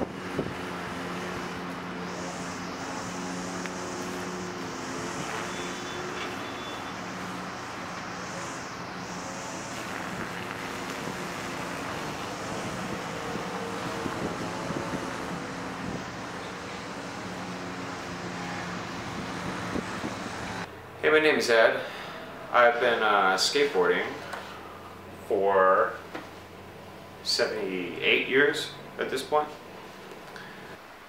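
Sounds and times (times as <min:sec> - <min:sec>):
traffic noise: 0:00.0 - 0:31.0
vehicle engine humming: 0:00.0 - 0:31.0.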